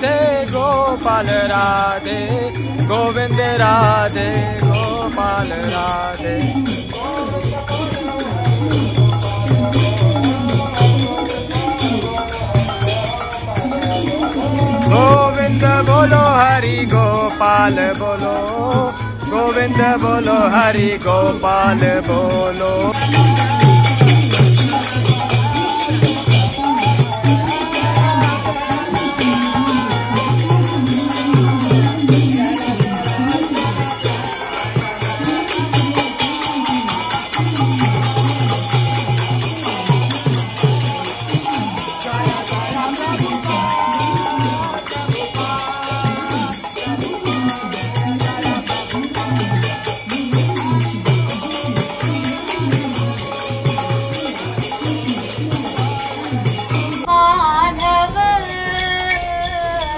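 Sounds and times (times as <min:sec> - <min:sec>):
jingling hand percussion: 0:00.0 - 0:59.9
voices chanting: 0:00.0 - 0:59.9.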